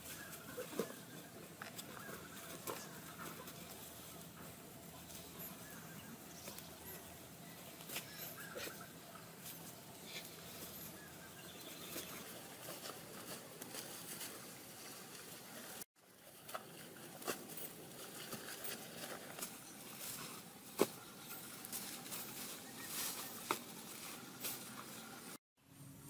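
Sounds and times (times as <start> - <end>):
rustling of grass and basket: 0.0 - 25.4.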